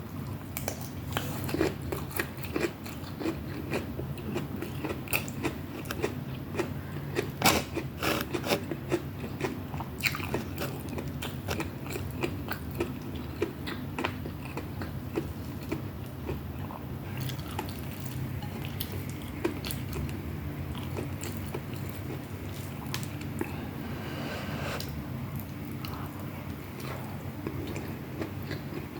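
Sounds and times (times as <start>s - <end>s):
steady low hum: 0.0s - 28.9s
chewing and crunching food: 0.1s - 23.6s, 25.3s - 28.9s.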